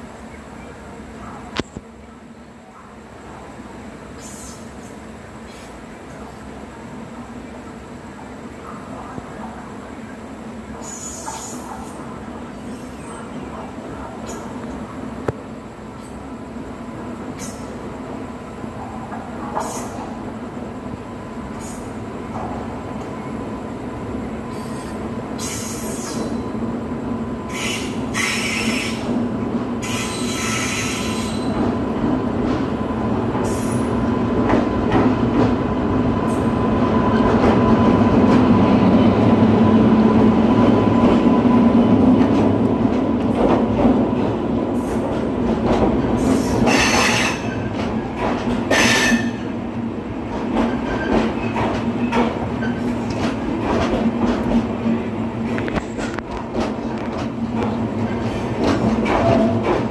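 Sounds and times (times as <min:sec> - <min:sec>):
train running on rails: 0:00.0 - 0:59.9.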